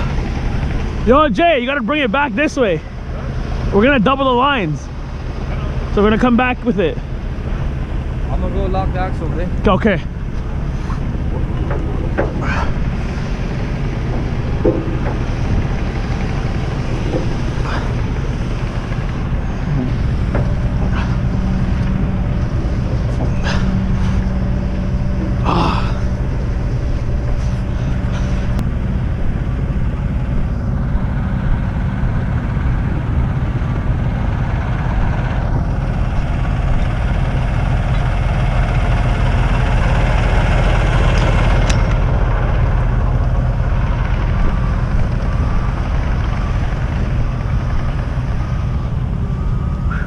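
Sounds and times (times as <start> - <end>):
diesel truck engine running: 0.0 - 50.0.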